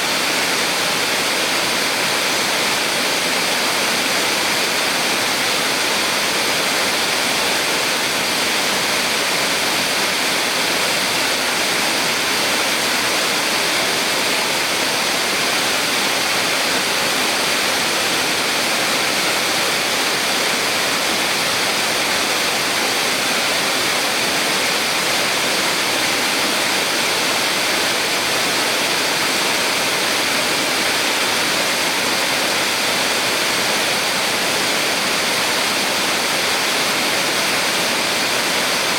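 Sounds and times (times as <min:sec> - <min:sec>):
small waterfall pouring and splashing: 0:00.0 - 0:38.9.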